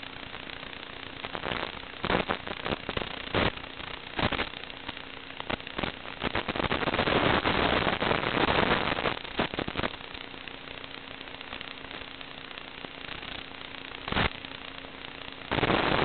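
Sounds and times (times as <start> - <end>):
crackling radio static: 0.0 - 16.0.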